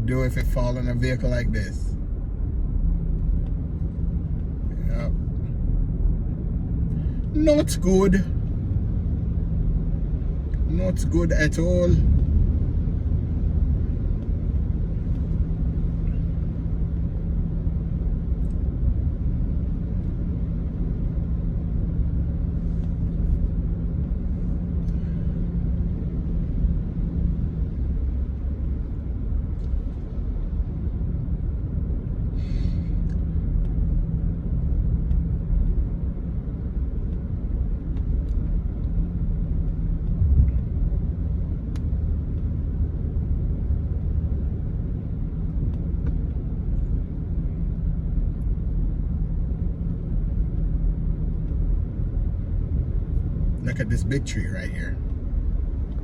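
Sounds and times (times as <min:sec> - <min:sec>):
vehicle engine and tyres rumbling: 0:00.0 - 0:56.0.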